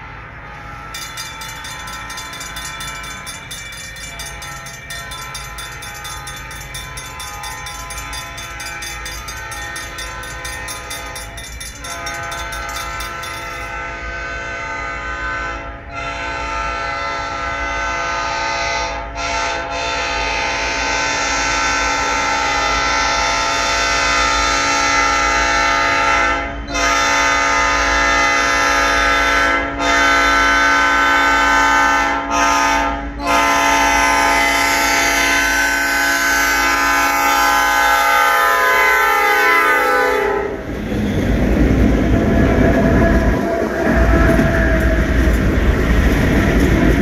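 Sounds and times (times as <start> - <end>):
diesel locomotive horn blasts: 0.0 - 46.5
train wheels rumbling on rails: 0.0 - 47.0.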